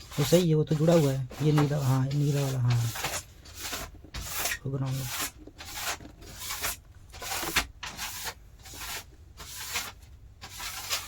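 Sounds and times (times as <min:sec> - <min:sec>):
scraping strokes by hand: 0:00.0 - 0:11.0.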